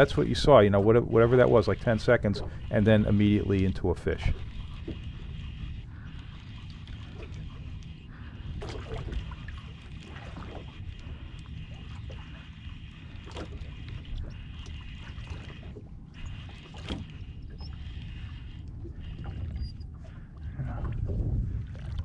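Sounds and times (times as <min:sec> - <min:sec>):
fishing reel whirring: 0:00.0 - 0:19.8
wind and water rumble: 0:00.0 - 0:22.0.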